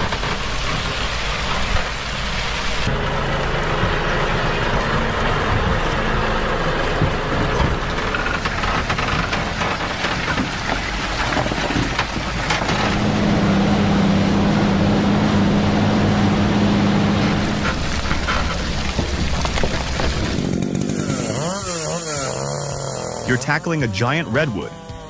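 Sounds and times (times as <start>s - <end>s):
heavy truck engine running: 0.0s - 24.2s
rough noisy background: 0.0s - 25.0s.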